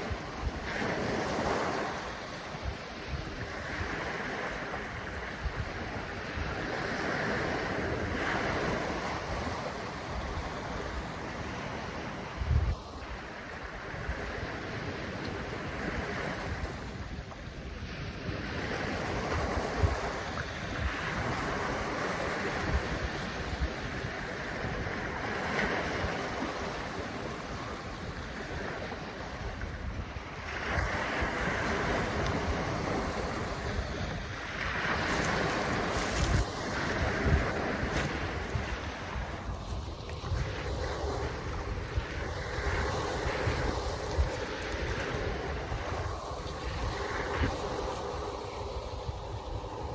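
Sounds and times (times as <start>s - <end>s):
waves washing in and out: 0.0s - 49.9s
wind buffeting microphone: 0.0s - 49.9s.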